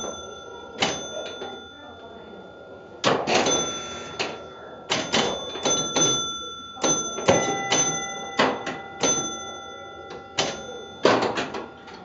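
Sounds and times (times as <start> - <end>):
pinball machine mechanical clacks: 0.0 - 1.7, 3.0 - 12.0
ringing scoring tones: 0.0 - 12.0.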